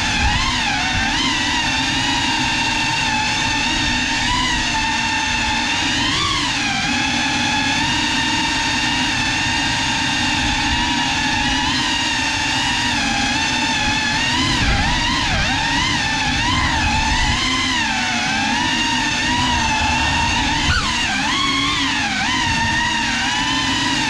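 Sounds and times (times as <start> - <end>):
drone propellers whining: 0.0 - 24.0.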